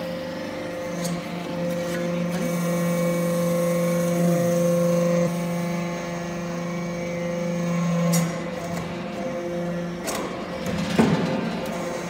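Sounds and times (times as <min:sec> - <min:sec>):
hydraulic press humming: 0:00.0 - 0:12.0.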